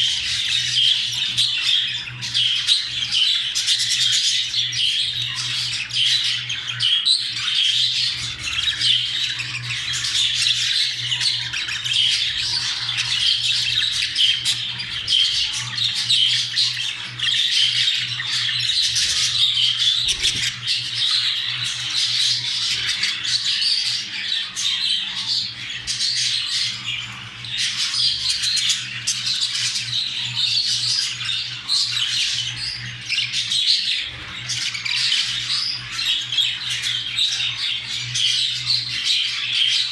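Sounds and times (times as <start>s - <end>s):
budgerigars warbling chatter: 0.0s - 39.9s.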